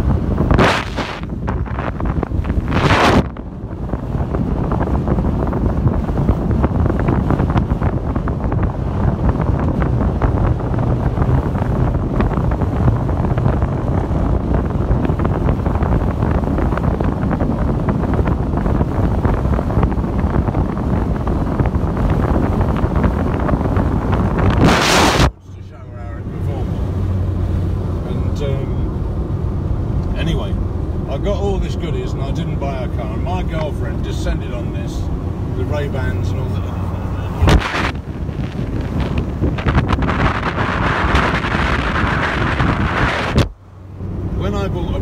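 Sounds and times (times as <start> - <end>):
wind buffeting a microphone: 0.0 - 28.0, 31.9 - 45.0.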